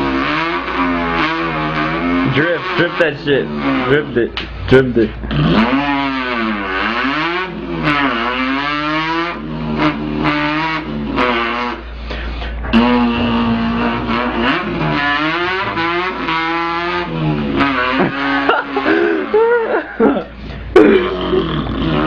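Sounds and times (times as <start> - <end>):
man imitating revving engine: 0.0 - 22.0.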